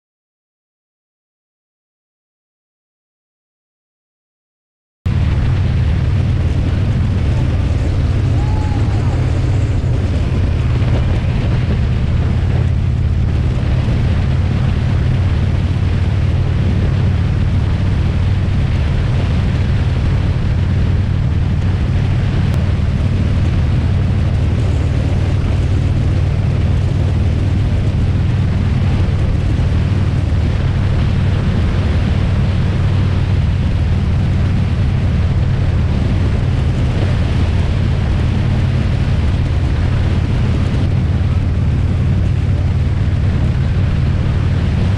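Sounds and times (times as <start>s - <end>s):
motorcycle engine drone: 5.1s - 44.9s
wind and road noise: 5.1s - 44.9s.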